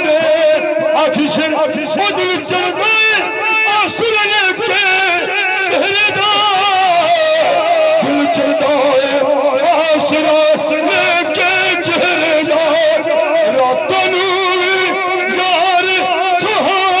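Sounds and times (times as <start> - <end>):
man singing into microphone: 0.0 - 17.0.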